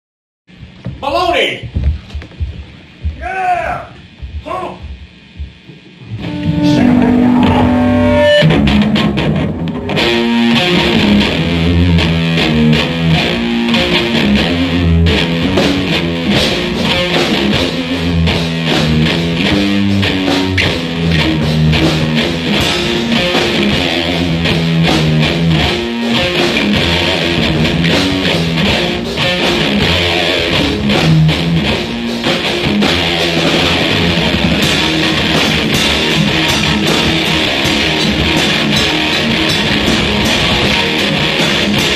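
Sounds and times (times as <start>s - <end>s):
bass guitar: 0.5s - 41.9s
electric guitar riffs: 2.9s - 41.9s.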